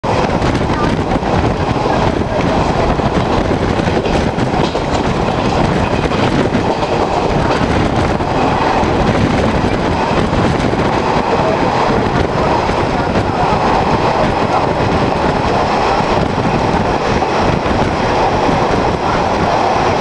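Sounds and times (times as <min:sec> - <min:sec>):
train rumbling: 0:00.0 - 0:20.0
wheels clattering over rail joints: 0:00.1 - 0:20.0.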